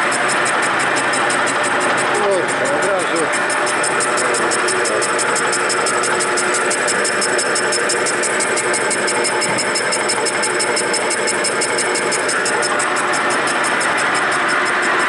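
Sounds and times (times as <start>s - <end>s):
milling machine cutting metal: 0.0s - 15.0s
rapid regular ticking: 0.0s - 15.0s.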